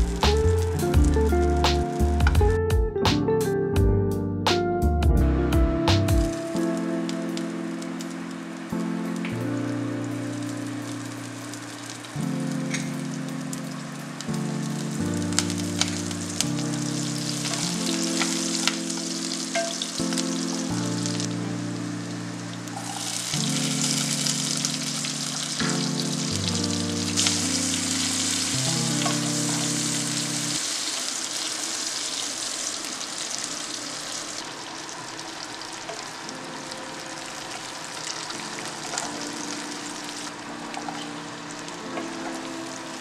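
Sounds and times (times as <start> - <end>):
oil sizzling in a wok: 6.3 - 43.0.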